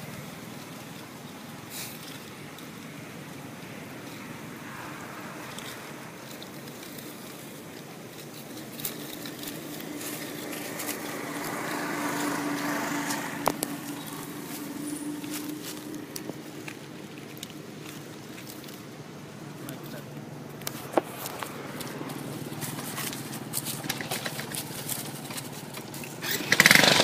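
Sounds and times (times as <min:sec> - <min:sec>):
distant vehicle engine hum: 0:00.0 - 0:27.0
dry leaves crackling: 0:00.0 - 0:27.0.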